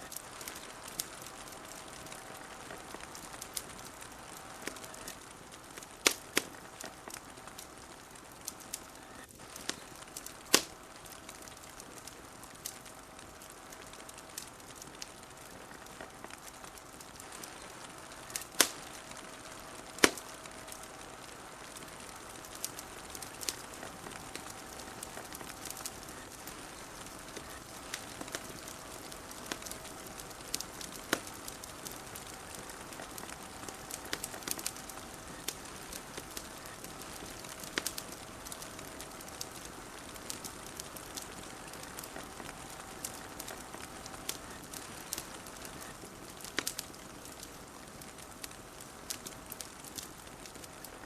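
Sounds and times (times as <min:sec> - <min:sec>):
steady hiss: 0:00.0 - 0:51.0
wood fire crackling: 0:00.0 - 0:51.0.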